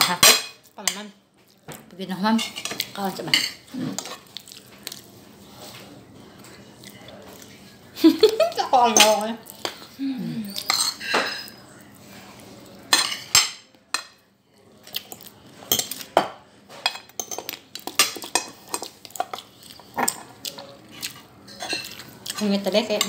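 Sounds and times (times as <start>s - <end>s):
cutlery scraping and clinking plates: 0.0s - 1.1s, 2.4s - 14.2s, 14.9s - 23.0s.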